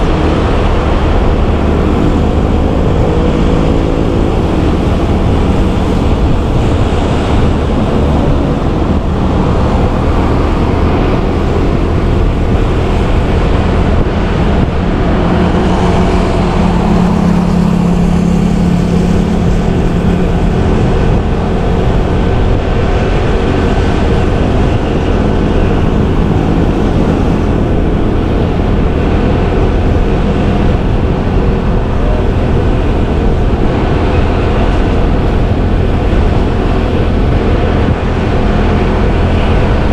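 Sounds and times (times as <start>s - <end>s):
motorbike engine: 0.0s - 39.9s
road and wind rumble: 0.0s - 39.9s.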